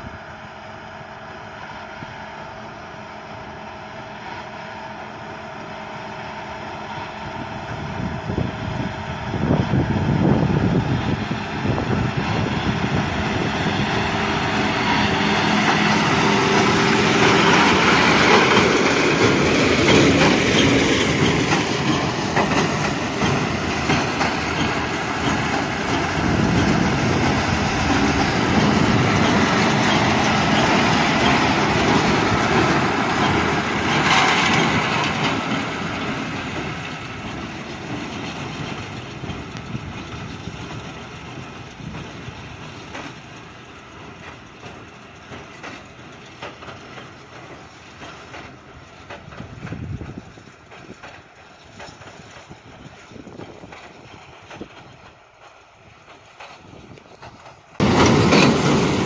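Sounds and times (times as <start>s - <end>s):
tractor diesel engine under load: 0.0s - 59.0s
baler working: 8.4s - 59.0s.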